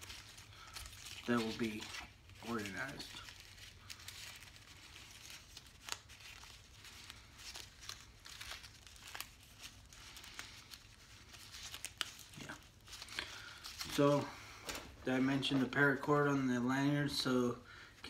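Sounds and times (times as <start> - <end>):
crinkling of bandage wrappers: 0.0 - 16.1.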